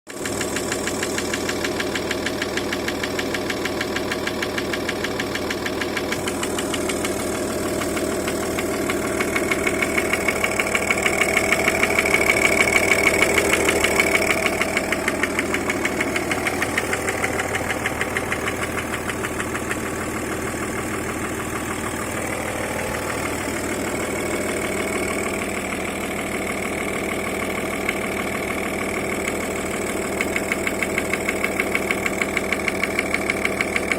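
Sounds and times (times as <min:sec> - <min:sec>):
diesel engine idling with knock: 0:00.1 - 0:33.9.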